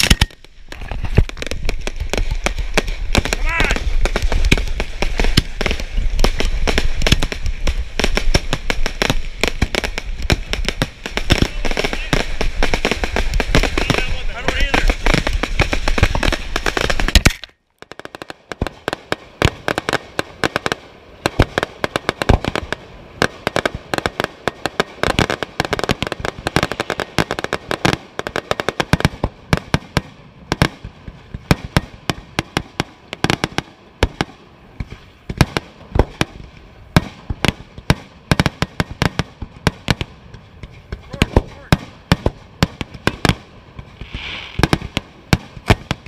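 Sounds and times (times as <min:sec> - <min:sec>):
fireworks bangs and pops: 0:00.0 - 0:46.0.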